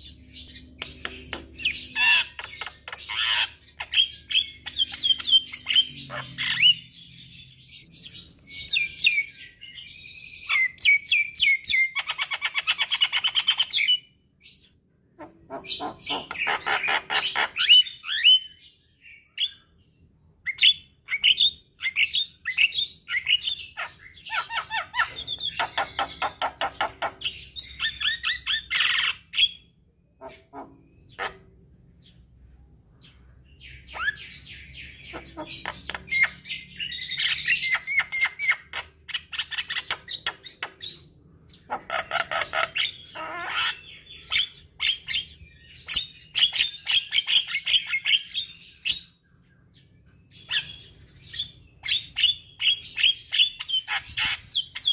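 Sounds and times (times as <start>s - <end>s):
myna bird chattering and squawking: 0.0s - 14.0s, 15.0s - 18.6s, 20.5s - 32.2s, 33.6s - 49.2s, 50.3s - 54.9s.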